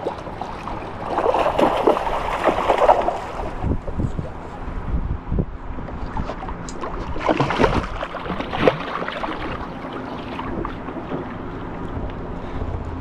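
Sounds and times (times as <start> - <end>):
water lapping against boat hull: 0.0 - 4.8, 5.7 - 13.0
wind buffeting microphone: 0.7 - 13.0.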